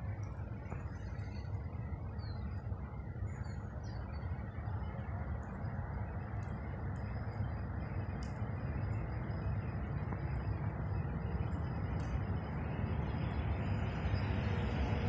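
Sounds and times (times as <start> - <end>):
electric locomotive and freight train rumble: 0.0 - 15.0.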